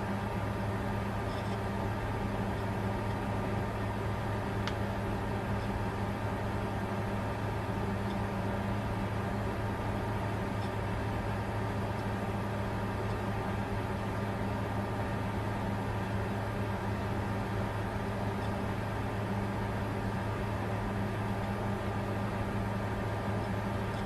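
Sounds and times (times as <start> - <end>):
computer cooling fans rushing: 0.0 - 24.0
constant low hum: 0.0 - 24.0.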